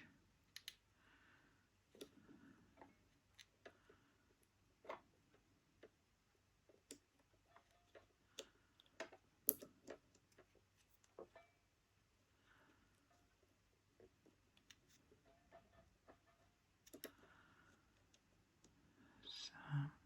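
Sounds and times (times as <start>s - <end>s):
small parts clicking and tapping: 0.0s - 0.9s, 1.8s - 11.8s, 12.5s - 18.8s.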